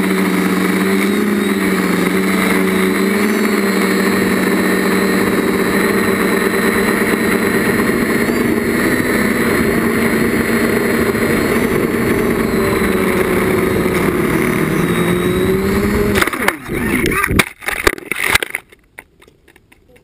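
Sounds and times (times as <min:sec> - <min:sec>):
drone motors buzzing: 0:00.0 - 0:18.6.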